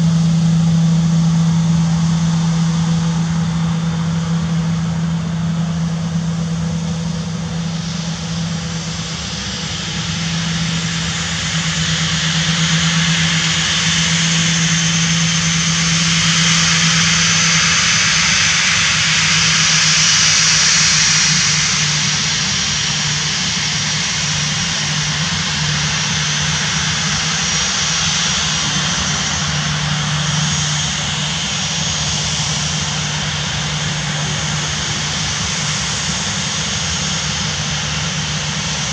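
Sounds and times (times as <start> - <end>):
jet engines hissing and whining: 0.0 - 38.9
low hum: 0.0 - 38.9.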